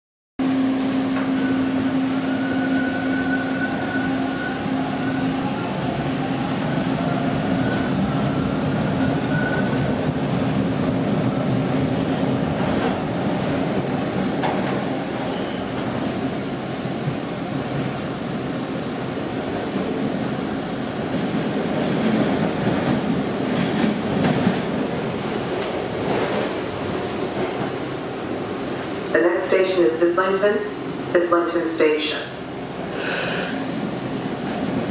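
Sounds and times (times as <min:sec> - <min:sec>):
train hum: 0:00.4 - 0:34.9
wheels rumbling on rail: 0:00.4 - 0:34.9.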